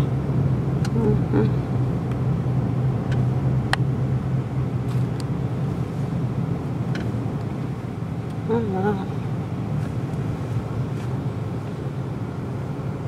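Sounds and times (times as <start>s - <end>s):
car engine and tyres drone: 0.0s - 13.0s.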